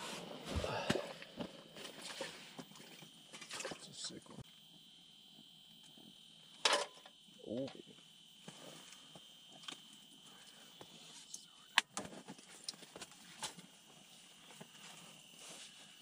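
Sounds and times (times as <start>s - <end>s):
faint steady high hum: 0.0s - 16.0s.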